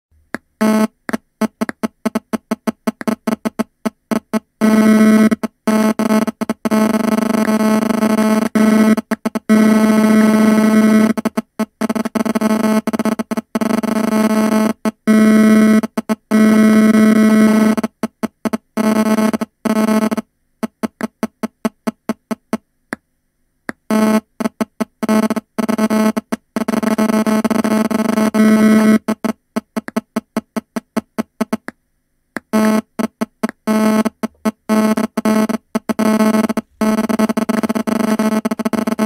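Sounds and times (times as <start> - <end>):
phone interference buzzing: 0.6 - 22.6, 23.8 - 31.7, 32.4 - 39.0.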